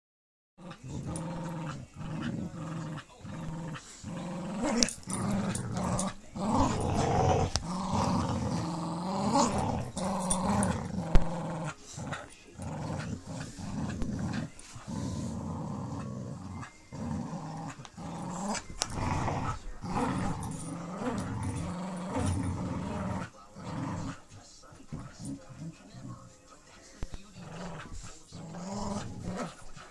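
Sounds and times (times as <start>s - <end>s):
dogs play-growling: 0.6s - 29.9s.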